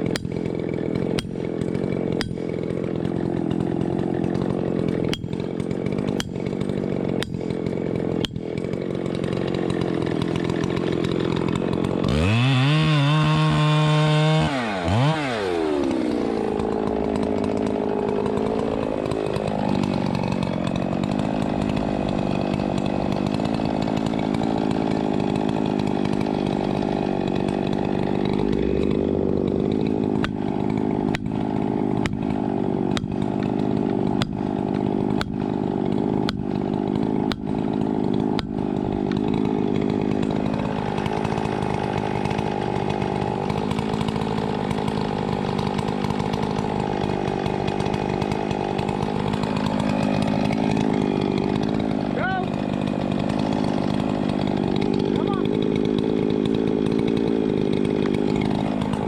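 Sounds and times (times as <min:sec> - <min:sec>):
chainsaw running: 0:00.0 - 0:59.0.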